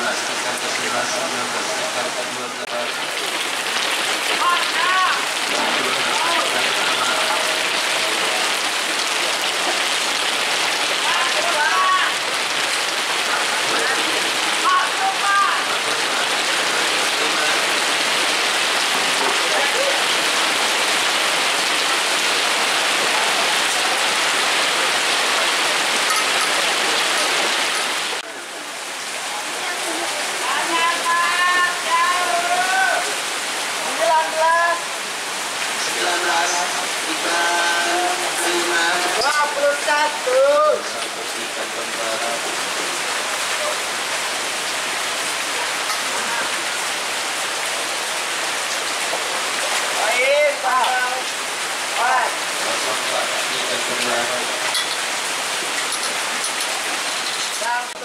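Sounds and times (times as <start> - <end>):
heavy rain on pond water: 0.0 - 58.0.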